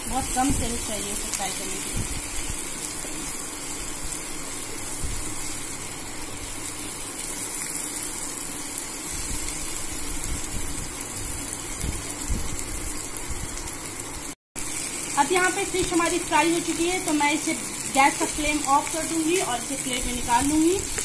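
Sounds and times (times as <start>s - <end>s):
fish frying in a pan: 0.0s - 21.0s.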